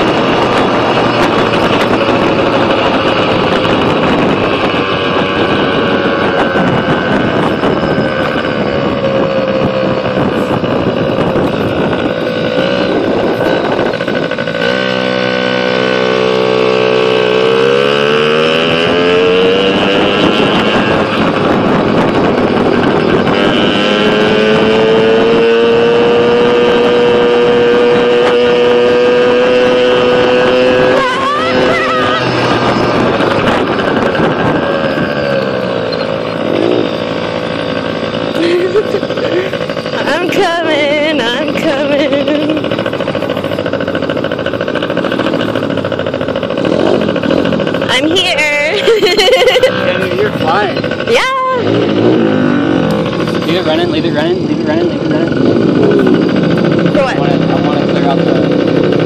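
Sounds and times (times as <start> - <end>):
pit bike engine revving: 0.0 - 59.0.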